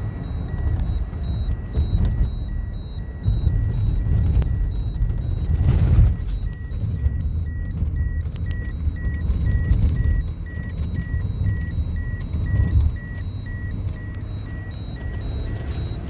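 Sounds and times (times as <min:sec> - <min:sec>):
car road rumble: 0:00.0 - 0:16.0
high-pitched electronic beeps: 0:00.0 - 0:16.0.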